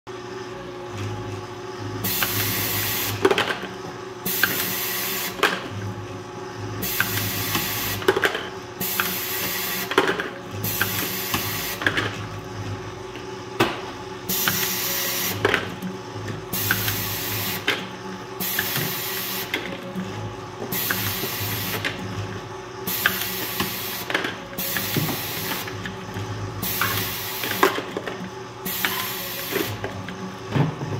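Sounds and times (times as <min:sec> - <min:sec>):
steady machine hum: 0:00.1 - 0:30.9.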